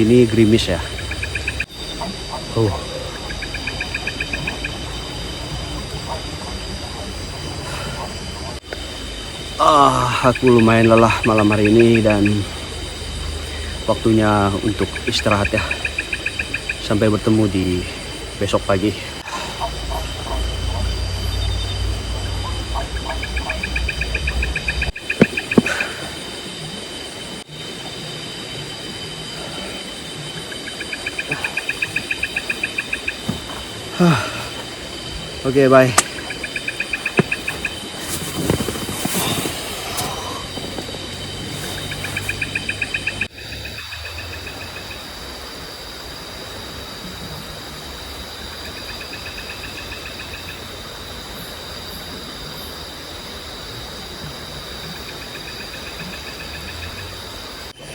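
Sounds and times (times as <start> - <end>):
insects shrilling: 0.0 - 47.0
crickets chirping trills: 0.0 - 57.9
rapid pulsed insect call: 0.0 - 57.9.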